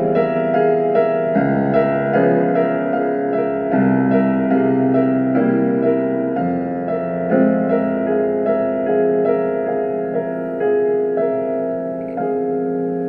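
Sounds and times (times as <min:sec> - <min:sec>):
piano playing chords and melody: 0:00.0 - 0:13.0.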